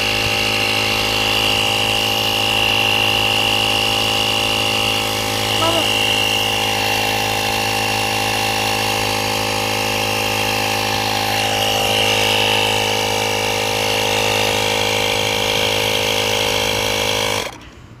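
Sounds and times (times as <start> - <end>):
tyre inflator compressor running: 0.0 - 18.0.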